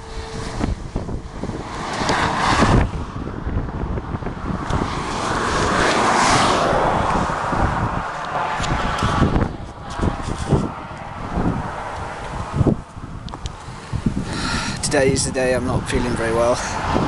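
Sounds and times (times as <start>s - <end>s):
car passing with tyre noise: 0.0s - 17.0s
wind buffeting microphone: 0.0s - 17.0s.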